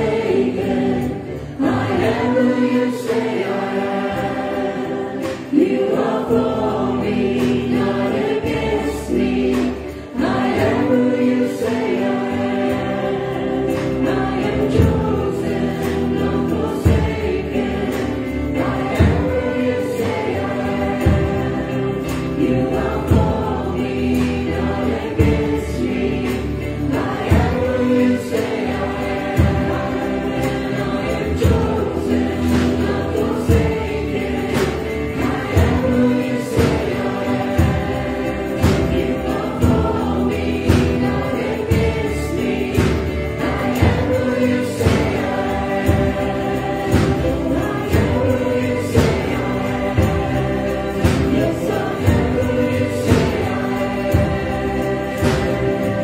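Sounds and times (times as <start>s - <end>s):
group of voices singing: 0.0s - 56.0s
instrumental accompaniment with beat: 0.0s - 56.0s.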